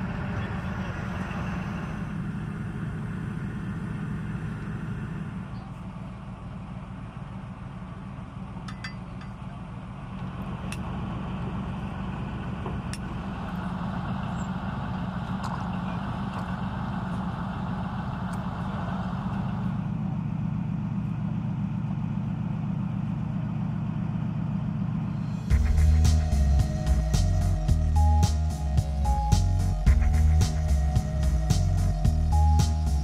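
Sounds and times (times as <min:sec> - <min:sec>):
heavy vehicle engine idling: 0:00.0 - 0:33.0.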